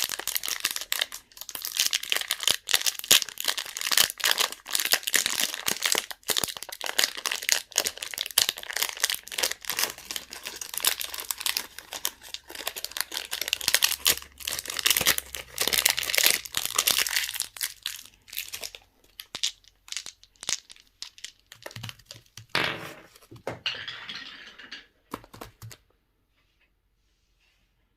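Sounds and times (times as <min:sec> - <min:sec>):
candy wrappers crinkling: 0:00.0 - 0:22.5.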